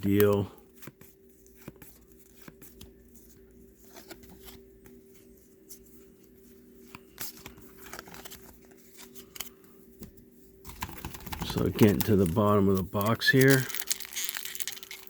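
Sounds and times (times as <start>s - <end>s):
cards flipped by hand: 0.0s - 5.0s, 6.8s - 15.0s
faint steady hum: 0.0s - 15.0s.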